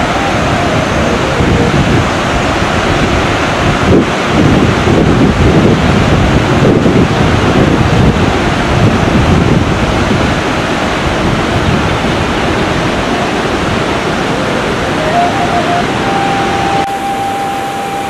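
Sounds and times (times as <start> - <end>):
river rushing over boulders: 0.0 - 18.0
wind buffeting microphone: 0.0 - 18.0.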